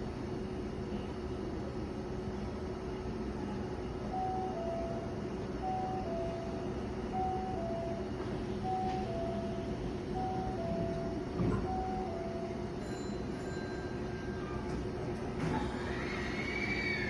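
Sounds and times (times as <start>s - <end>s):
train hum: 0.0s - 17.0s.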